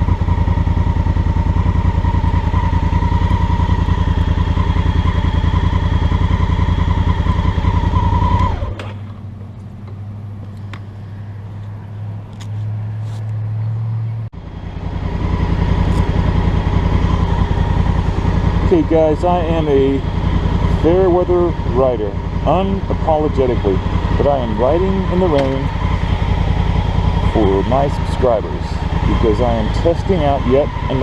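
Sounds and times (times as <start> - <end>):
motorcycle engine pulsing: 0.0 - 12.8, 13.4 - 31.0.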